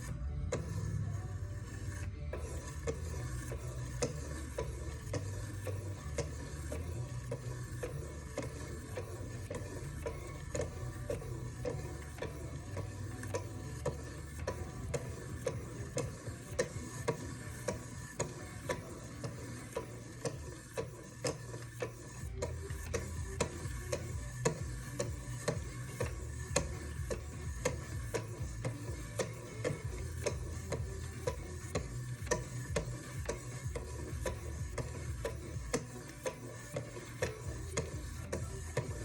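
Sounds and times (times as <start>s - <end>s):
steady ticking clicks: 0.0s - 39.0s.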